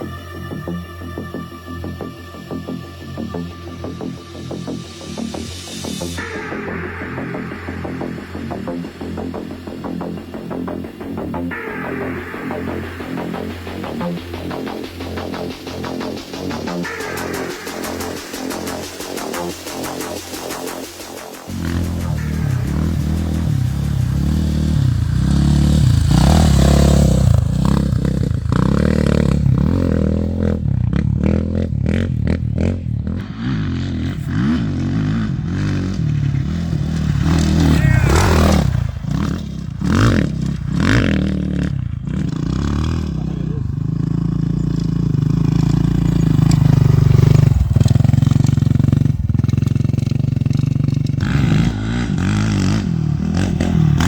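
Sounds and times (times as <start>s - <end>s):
off-road engines revving past: 0.0s - 54.0s.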